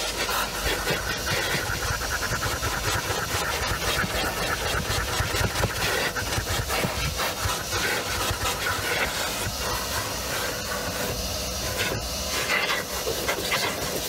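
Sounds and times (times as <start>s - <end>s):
vacuum cleaner on carpet: 0.0s - 14.0s.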